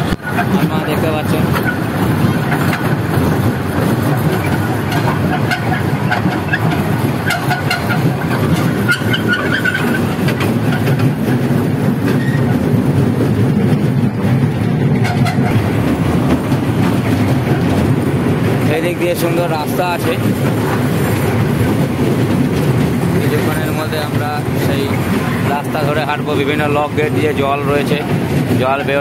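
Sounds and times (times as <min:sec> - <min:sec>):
toy train carriages rumbling: 0:00.0 - 0:29.0.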